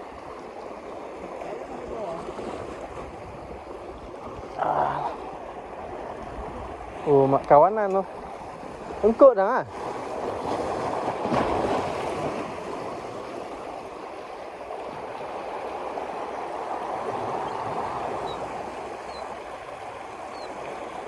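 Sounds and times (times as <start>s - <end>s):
moving water rushing and lapping: 0.0s - 21.0s.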